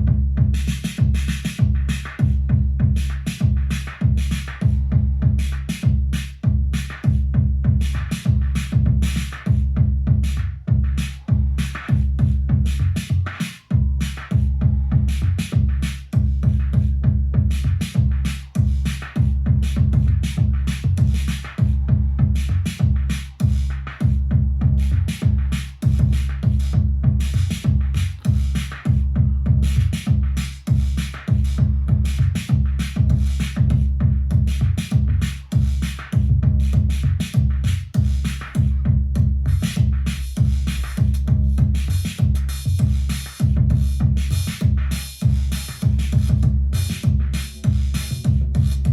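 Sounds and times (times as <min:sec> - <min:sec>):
electronic drum beat: 0:00.0 - 0:48.9.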